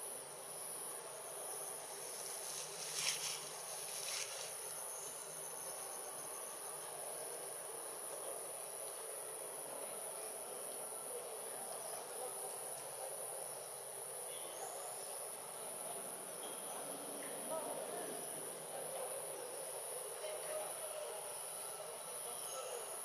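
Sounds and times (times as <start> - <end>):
low background murmur: 0.1 - 23.0.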